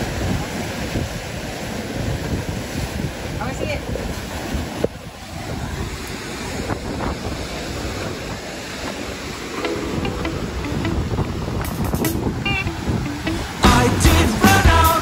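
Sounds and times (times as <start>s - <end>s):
wind buffeting microphone: 0.0s - 13.6s
surf breaking on rocks: 0.0s - 15.0s.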